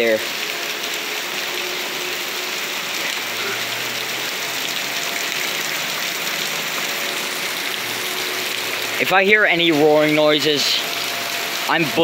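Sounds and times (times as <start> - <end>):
torrential rain on ground and water: 0.0 - 12.0.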